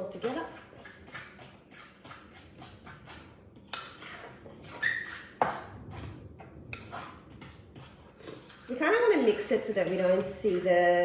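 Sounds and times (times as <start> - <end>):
utensil scraping batter in bowl: 0.0 - 11.0.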